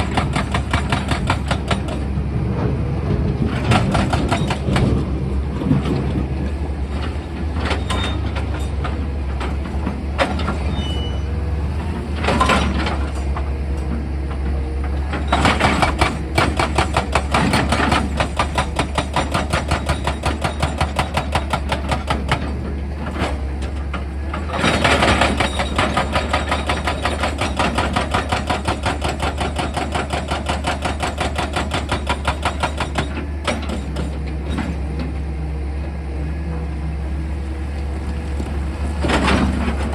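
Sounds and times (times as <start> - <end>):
excavator diesel engine humming: 0.0 - 39.9.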